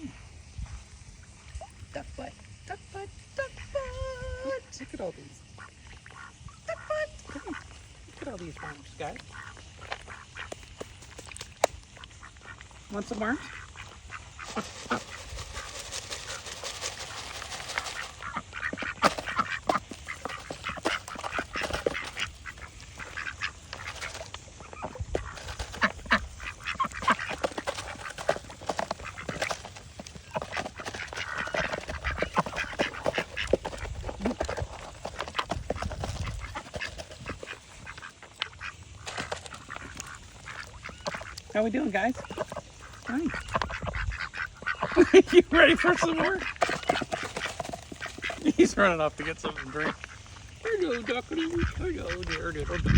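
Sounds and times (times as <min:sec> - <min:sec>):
ducks quacking: 0:02.2 - 0:52.9.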